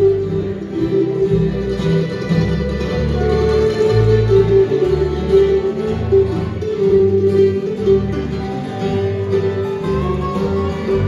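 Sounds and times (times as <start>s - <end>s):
low bass notes: 0.0s - 11.0s
mandolin: 0.0s - 11.0s
strummed acoustic guitars: 0.0s - 11.0s.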